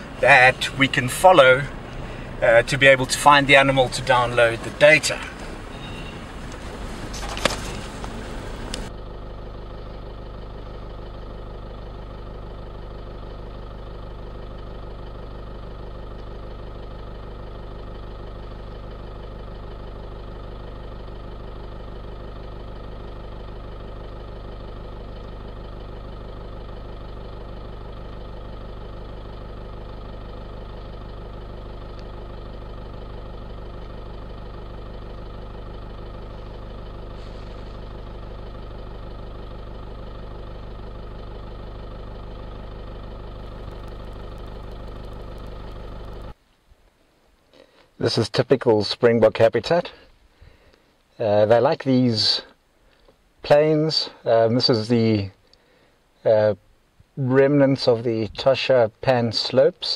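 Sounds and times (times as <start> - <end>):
vehicle engine idling: 0.0 - 48.2, 48.9 - 59.9.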